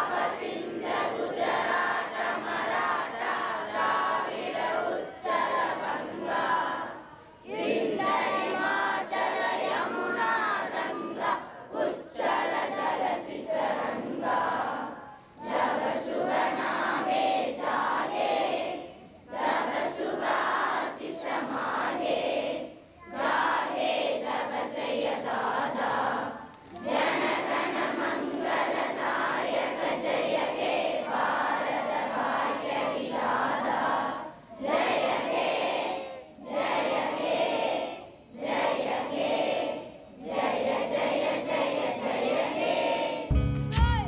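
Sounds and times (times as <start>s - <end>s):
crowd chanting in unison: 0.0s - 43.3s.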